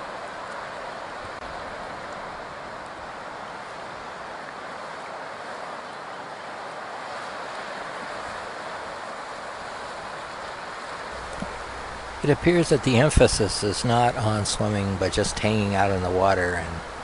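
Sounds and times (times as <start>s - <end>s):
ocean surf breaking: 0.0s - 17.0s
wind: 0.0s - 17.0s.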